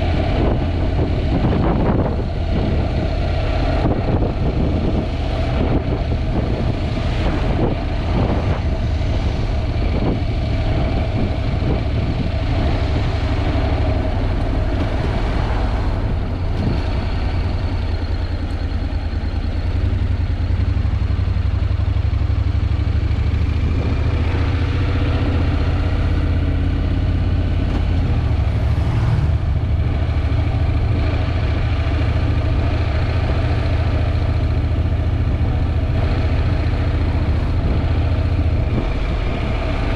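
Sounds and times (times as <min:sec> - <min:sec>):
wind buffeting microphone: 0:00.0 - 0:18.2, 0:21.0 - 0:39.9
motorcycle engine running: 0:00.0 - 0:39.9.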